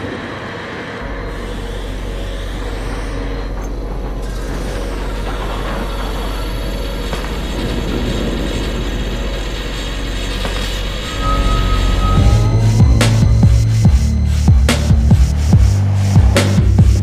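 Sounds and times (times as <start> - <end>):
bass-heavy music: 1.0 - 17.0.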